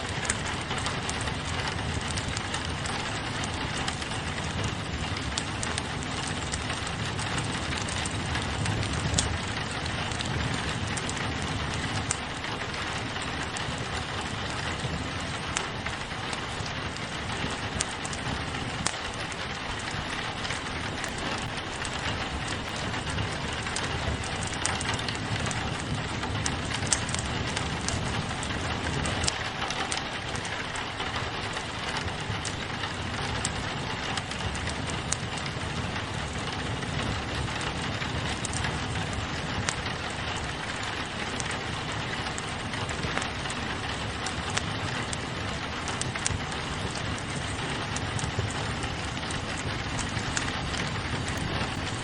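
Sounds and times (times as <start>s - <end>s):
rain pattering on a window: 0.0s - 52.0s
wood fire crackling: 0.0s - 52.0s.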